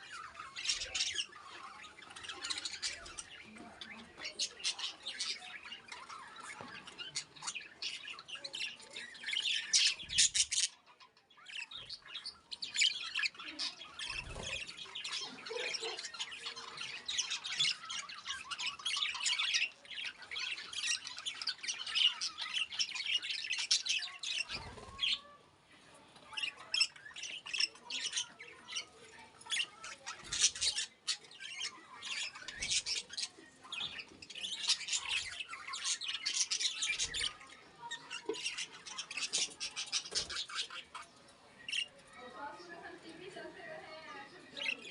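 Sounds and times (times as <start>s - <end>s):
lovebirds squawking and chirping: 0.0s - 44.9s.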